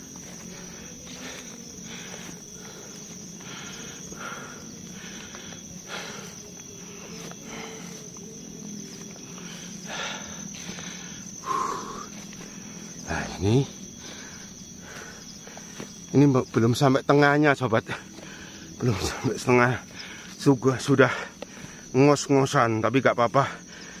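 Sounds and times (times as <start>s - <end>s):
man breathing hard: 0.0s - 16.1s, 17.9s - 20.4s, 21.0s - 22.0s, 23.5s - 24.0s
footsteps on overgrown path: 0.0s - 24.0s
insects droning: 0.0s - 24.0s.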